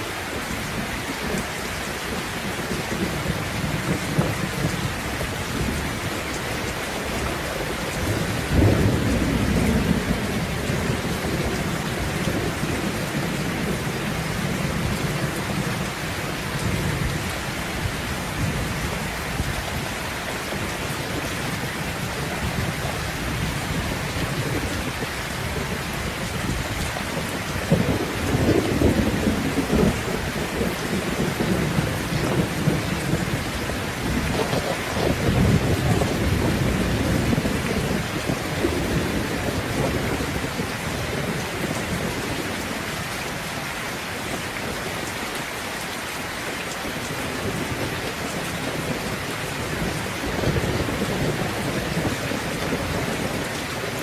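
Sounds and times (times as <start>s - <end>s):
thunder rumbling: 0.0s - 45.1s, 46.9s - 54.0s
steady rain: 0.0s - 54.0s.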